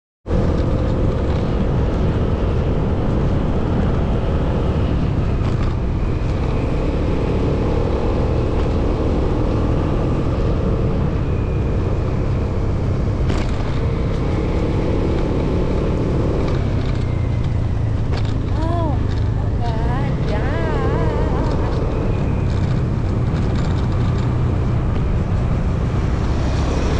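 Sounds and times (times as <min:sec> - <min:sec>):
road and wind rumble: 0:00.2 - 0:26.9
motorcycle engine hum: 0:00.3 - 0:26.9.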